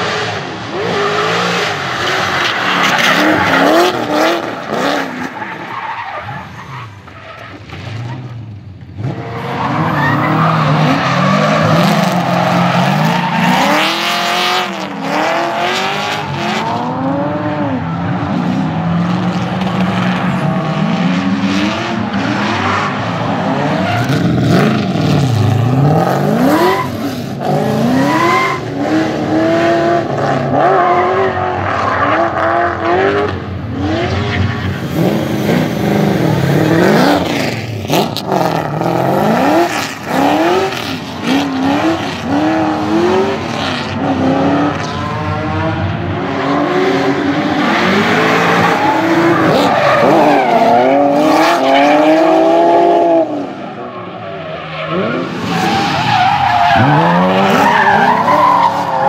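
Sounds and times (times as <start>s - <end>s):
car engine revving hard: 9.0s - 53.5s, 54.9s - 58.9s.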